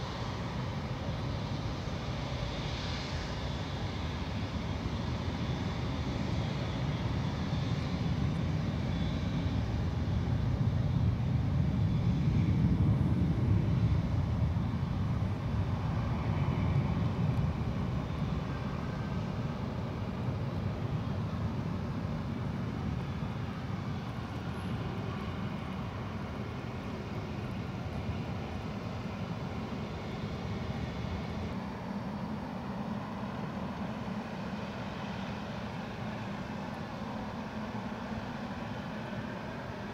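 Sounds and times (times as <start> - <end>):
jet airliner engine rumble: 0.0 - 39.9.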